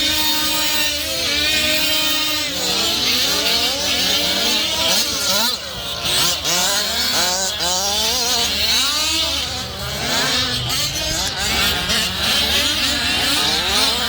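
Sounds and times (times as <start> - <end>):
rc car engines revving: 0.0 - 14.0.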